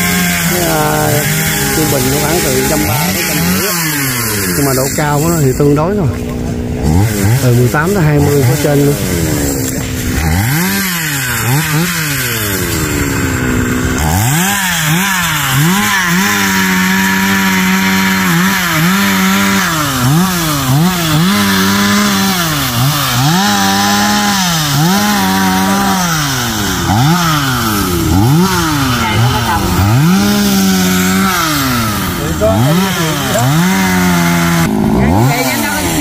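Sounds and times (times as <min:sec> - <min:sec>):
chainsaw cutting tree trunk: 0:00.0 - 0:36.0.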